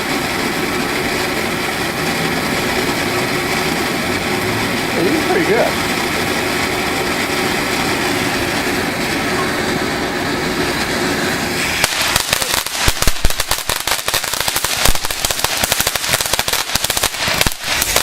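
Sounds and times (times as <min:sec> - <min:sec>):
fireworks crackling pops: 0:00.0 - 0:18.0
fireworks spraying hiss: 0:00.0 - 0:18.0.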